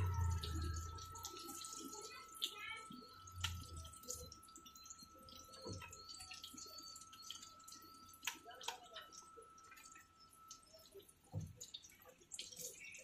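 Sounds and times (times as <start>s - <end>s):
faint steady high tone: 0.0s - 13.0s
oil sizzling with crackles and pops: 0.0s - 13.0s.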